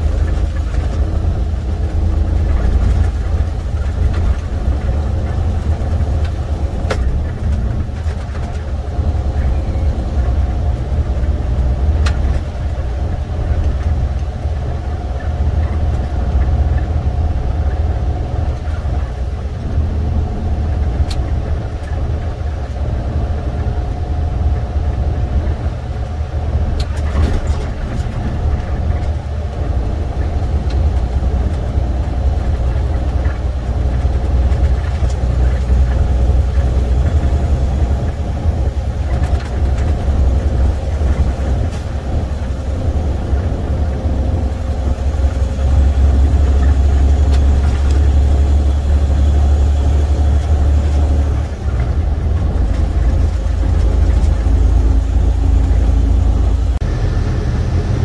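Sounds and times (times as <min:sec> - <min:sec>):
diesel truck engine rumble: 0:00.0 - 0:58.0
road noise: 0:00.0 - 0:58.0.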